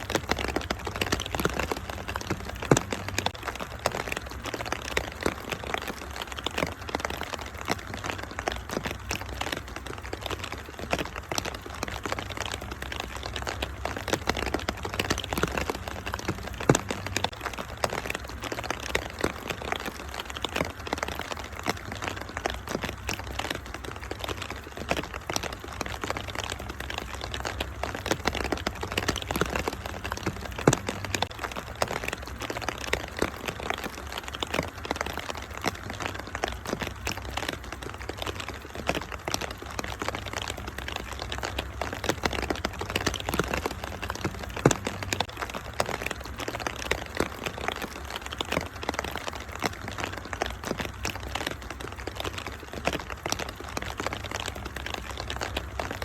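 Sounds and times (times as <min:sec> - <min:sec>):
rain hissing: 0:00.0 - 0:56.0
wood fire crackling: 0:00.0 - 0:56.0.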